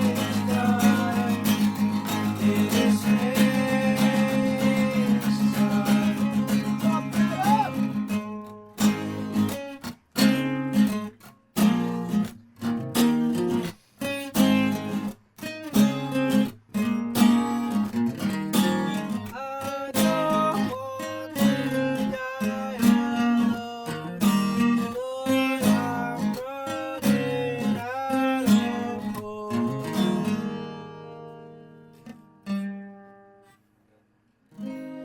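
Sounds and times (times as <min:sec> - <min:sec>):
acoustic guitar strumming: 0:00.0 - 0:33.8, 0:34.5 - 0:35.0.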